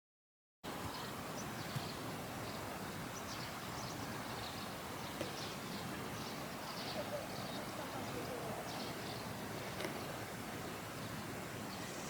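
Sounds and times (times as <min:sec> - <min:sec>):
steady background hiss: 0:00.7 - 0:12.0.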